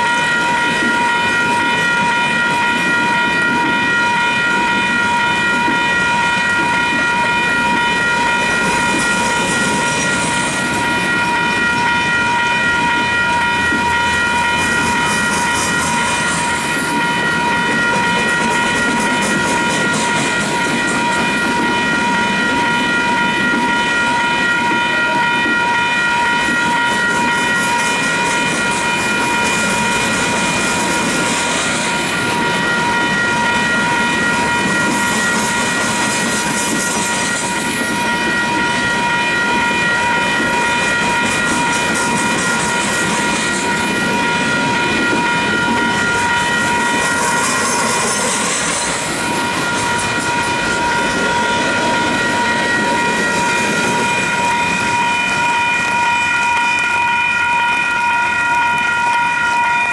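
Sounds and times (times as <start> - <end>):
steady high-pitched ringing: 0.0 - 59.9
train wheels rumbling on rails: 0.0 - 59.9.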